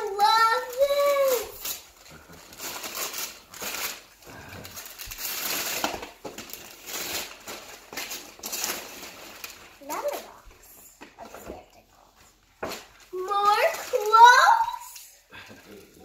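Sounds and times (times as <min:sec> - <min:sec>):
gift paper crinkling and rustling: 0:00.0 - 0:11.6, 0:12.3 - 0:15.0.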